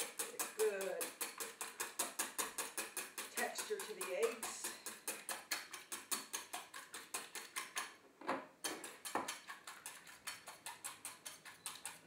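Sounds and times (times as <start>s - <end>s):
whisk beating eggs in metal bowl: 0.0s - 8.0s, 8.6s - 12.0s.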